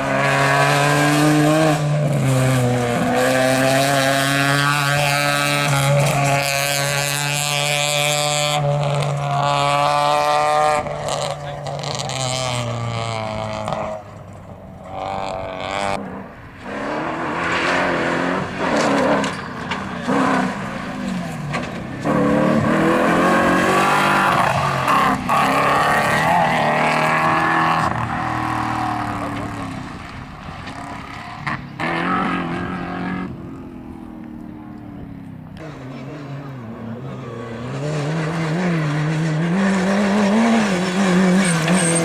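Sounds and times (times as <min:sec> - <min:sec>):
rally car engines revving: 0:00.0 - 0:42.0.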